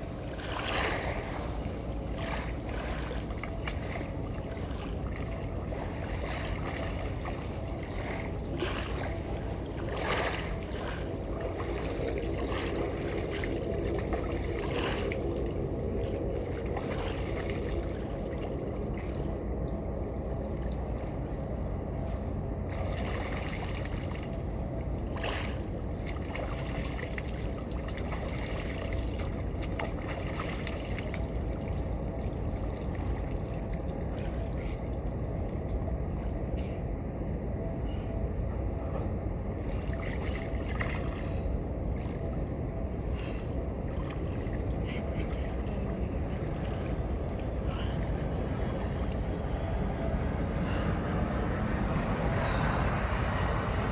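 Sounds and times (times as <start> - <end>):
boat engine rumble: 0.0 - 53.9
water splashing along hull: 0.0 - 53.9.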